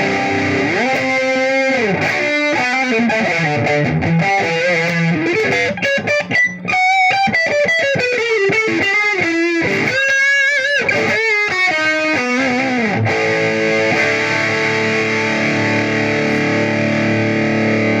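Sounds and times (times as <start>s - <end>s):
distorted electric guitar lead: 0.0s - 18.0s
guitar chord ringing: 0.0s - 18.0s.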